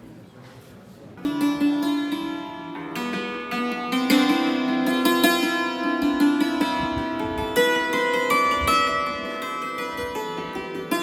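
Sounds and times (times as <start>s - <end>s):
plucked string instrument: 1.2s - 11.0s.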